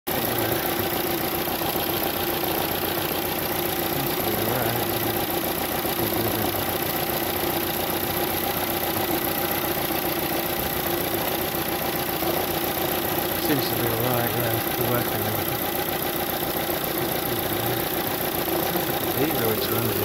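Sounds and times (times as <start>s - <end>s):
car engine idling: 0.1s - 20.0s.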